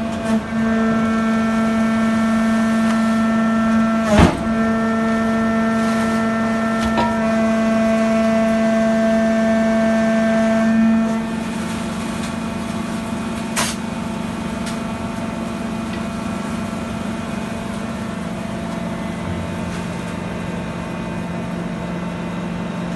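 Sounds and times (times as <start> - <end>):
packing press machine hum: 0.0 - 22.9.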